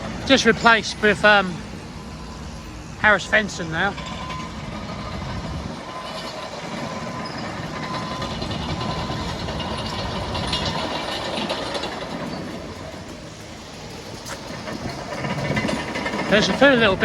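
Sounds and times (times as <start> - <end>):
heavy machinery diesel engines: 0.0 - 17.0
machinery clatter: 3.1 - 17.0.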